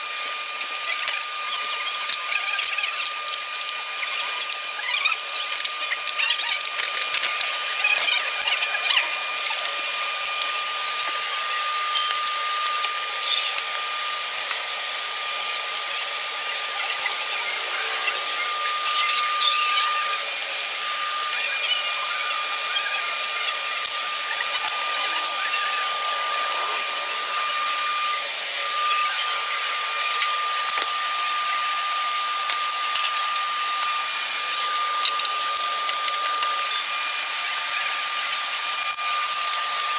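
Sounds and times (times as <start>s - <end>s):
machine whine and hiss: 0.0s - 39.9s.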